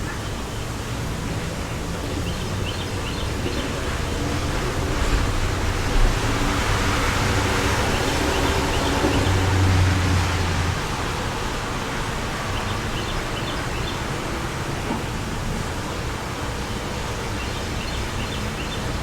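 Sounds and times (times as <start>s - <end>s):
wind gusting: 0.0s - 19.0s.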